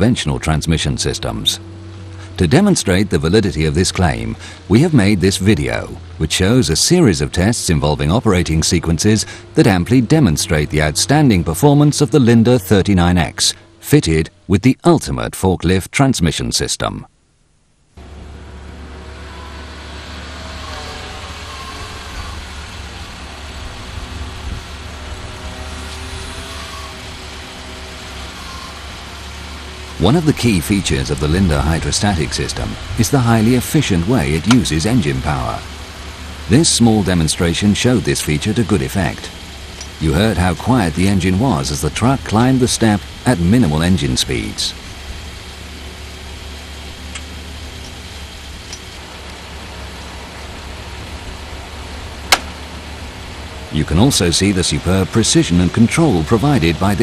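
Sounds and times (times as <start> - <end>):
forklift engine running: 0.0 - 14.6, 17.8 - 57.0.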